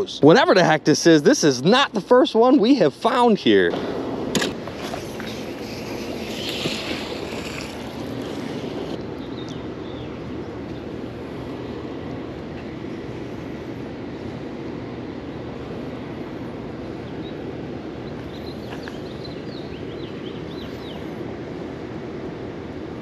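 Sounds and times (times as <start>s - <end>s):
steady outdoor rushing noise: 0.0s - 23.0s.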